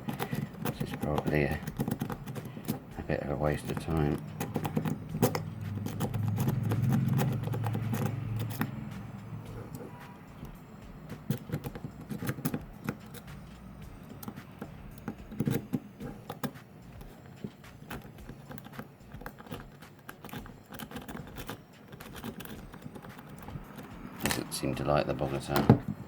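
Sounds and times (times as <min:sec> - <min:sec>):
lock pick scraping in keyway: 0:00.0 - 0:26.0.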